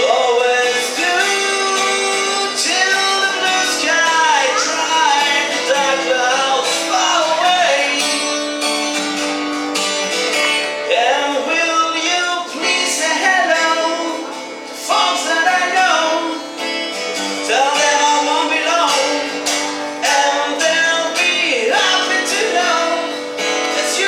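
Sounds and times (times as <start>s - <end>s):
person singing: 0.0s - 8.7s, 10.8s - 24.0s
plucked guitar: 0.0s - 24.0s.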